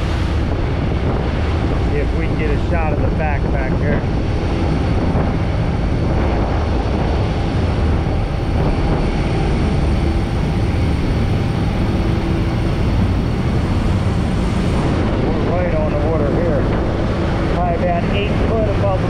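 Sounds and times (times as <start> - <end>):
rough sea against hull: 0.0 - 19.0
ship engines droning: 0.0 - 19.0
wake rushing: 0.0 - 19.0.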